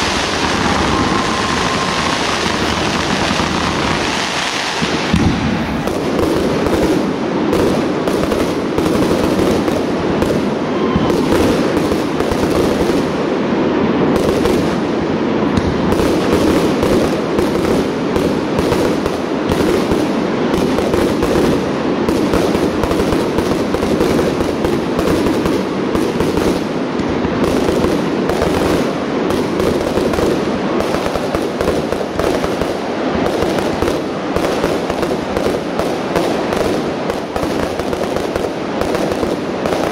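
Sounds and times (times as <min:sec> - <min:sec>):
fireworks barrage: 0:00.0 - 0:39.9
fireworks crackle: 0:00.0 - 0:39.9.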